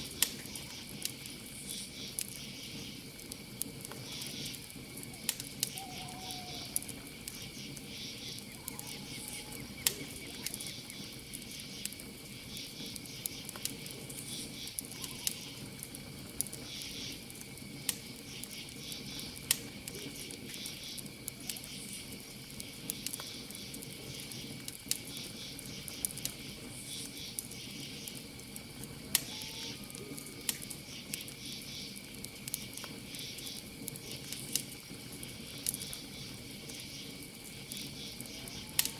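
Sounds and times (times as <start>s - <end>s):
campfire crackling and popping: 0.0s - 38.9s
crickets trilling and chirping: 0.0s - 38.9s.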